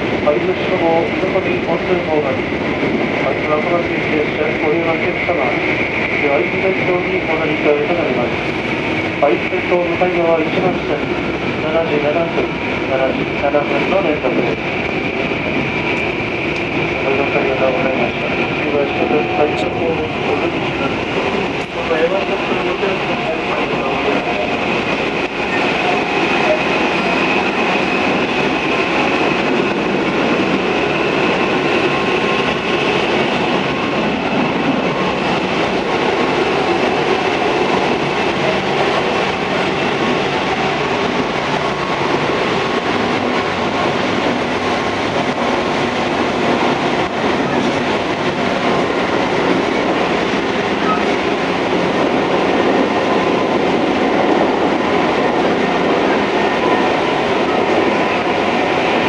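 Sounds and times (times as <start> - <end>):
electric train wheels on rail: 0.0 - 59.0.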